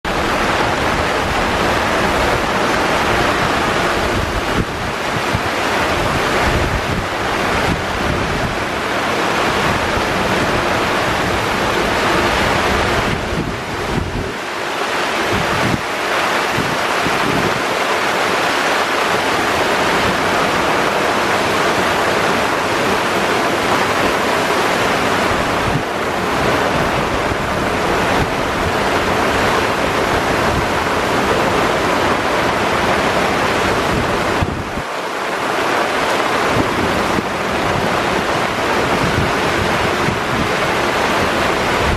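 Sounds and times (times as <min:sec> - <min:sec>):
wind gusting over microphone: 0:00.0 - 0:41.9
breaking seas: 0:00.1 - 0:41.9
hiss of rain: 0:00.1 - 0:41.9.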